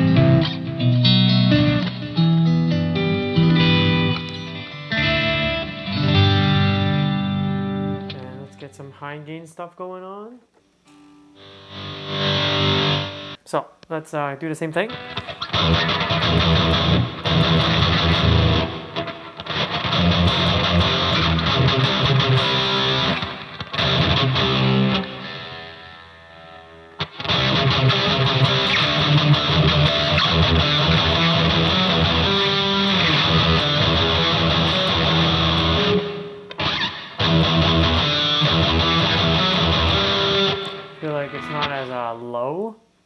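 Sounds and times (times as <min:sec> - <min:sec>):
distorted electric guitar riffs: 0:00.0 - 0:09.0, 0:10.8 - 0:13.4, 0:14.8 - 0:42.4.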